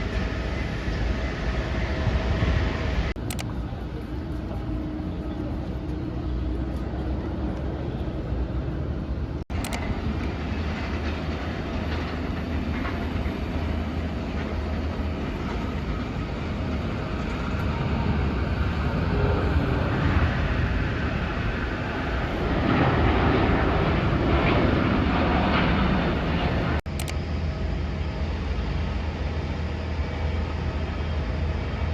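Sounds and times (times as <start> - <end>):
vehicle running noise: 0.0 - 27.8.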